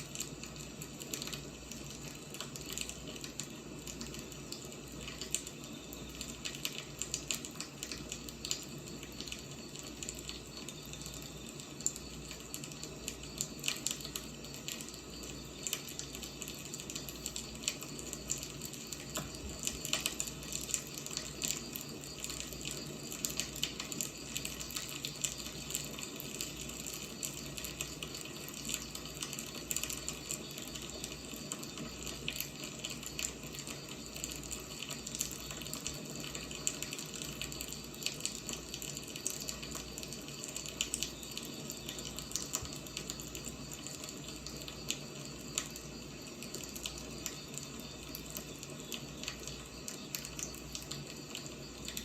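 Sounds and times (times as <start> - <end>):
firewood crackling and popping: 0.0 - 52.0
steady fire hiss: 0.0 - 52.0.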